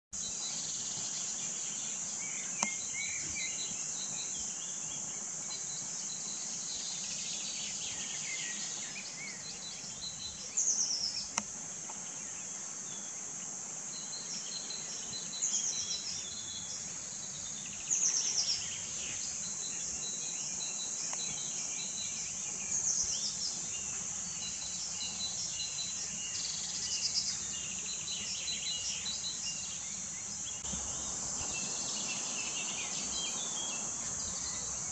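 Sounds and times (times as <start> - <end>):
bird calls and chirps: 0.2 - 13.2, 13.9 - 34.9
high-pitched insect chorus: 0.2 - 34.9.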